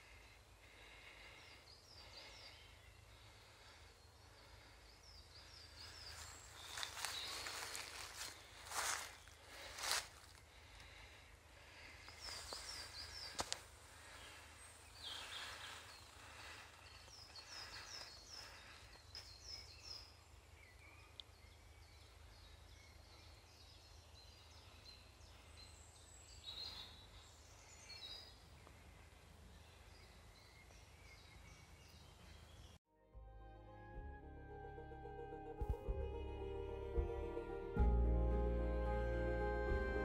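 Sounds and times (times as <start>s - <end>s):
birds singing: 0.0s - 32.8s.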